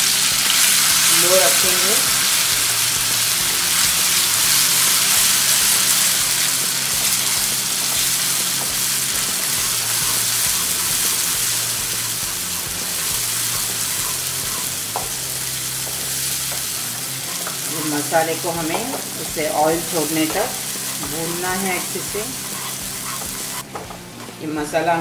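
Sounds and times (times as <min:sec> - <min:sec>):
paste sizzling in hot oil: 0:00.0 - 0:23.7.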